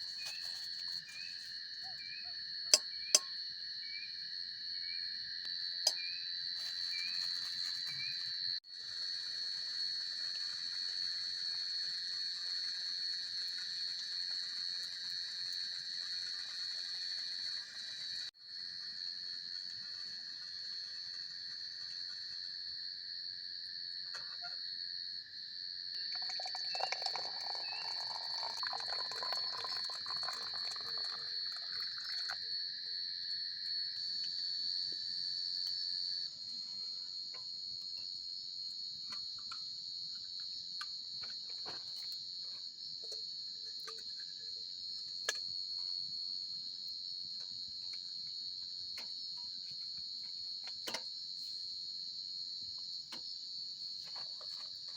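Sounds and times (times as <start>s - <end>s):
crickets trilling: 0.0s - 54.9s
lower insect trill: 0.0s - 54.9s.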